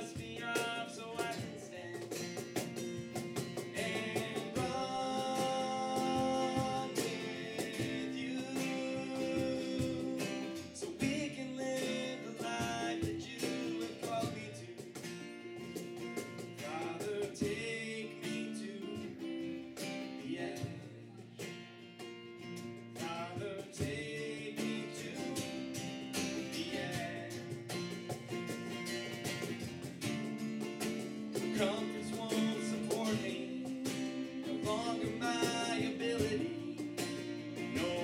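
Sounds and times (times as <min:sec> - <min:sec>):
acoustic guitars strumming: 0:00.0 - 0:38.0.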